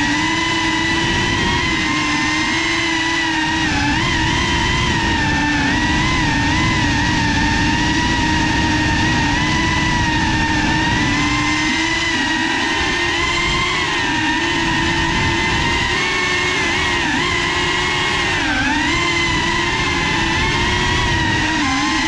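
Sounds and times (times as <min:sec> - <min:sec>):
drone motors whining: 0:00.0 - 0:22.0
prop wash rush: 0:00.0 - 0:22.0.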